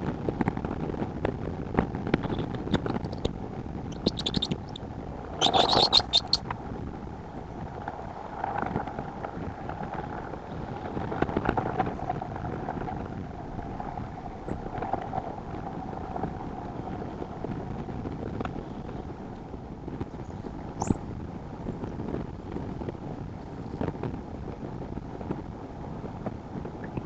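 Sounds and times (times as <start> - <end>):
wind noise on microphone: 0.0 - 27.0.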